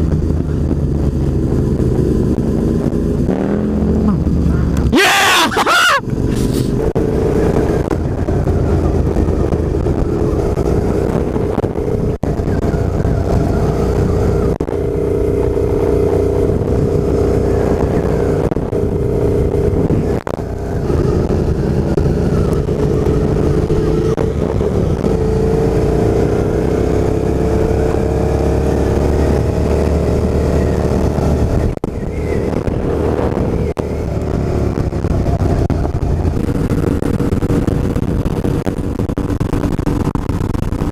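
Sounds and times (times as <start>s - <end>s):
motorcycle engine running: 0.0s - 5.0s, 5.9s - 40.9s
wind rush: 6.0s - 40.9s.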